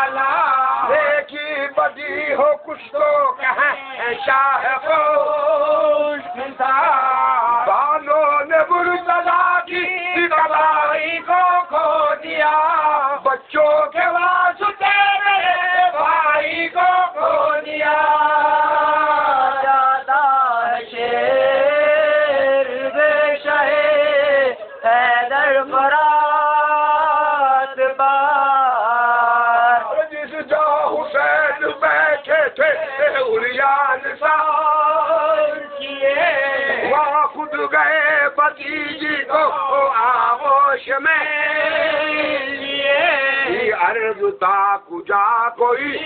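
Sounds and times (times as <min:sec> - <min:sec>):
man chanting unaccompanied: 0:00.0 - 0:46.0.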